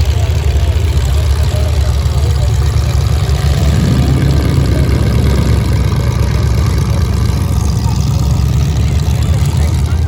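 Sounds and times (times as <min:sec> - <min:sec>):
loud car engines rumbling: 0:00.0 - 0:10.0.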